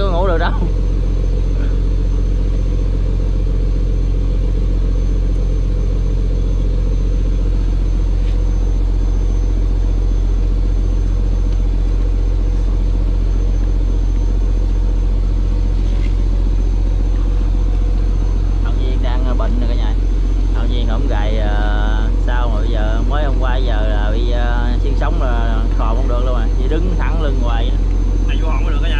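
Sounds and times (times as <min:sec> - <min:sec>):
diesel engine droning: 0:00.0 - 0:28.9.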